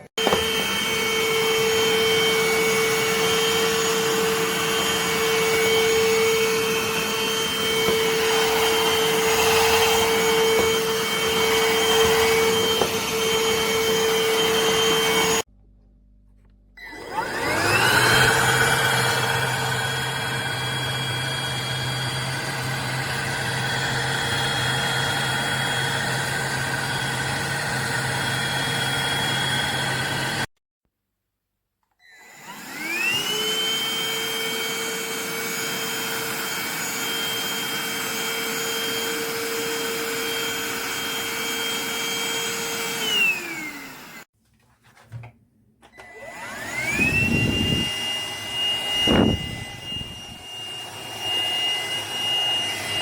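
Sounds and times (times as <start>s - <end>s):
handheld vacuum cleaner running: 0.0s - 15.5s, 16.8s - 30.5s, 32.0s - 44.3s, 45.8s - 53.0s.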